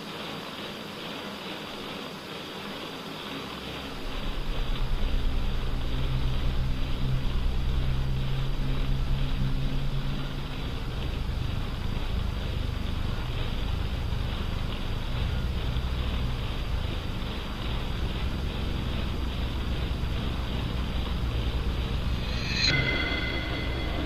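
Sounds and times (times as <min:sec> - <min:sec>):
noisy hiss: 0:00.0 - 0:24.0
low mechanical rumble: 0:02.6 - 0:24.0.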